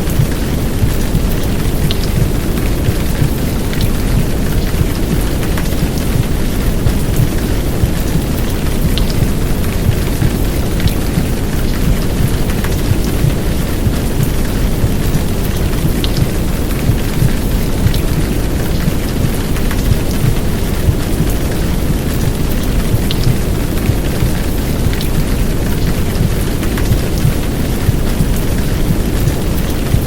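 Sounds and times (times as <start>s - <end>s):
heavy downpour rain: 0.0s - 30.0s.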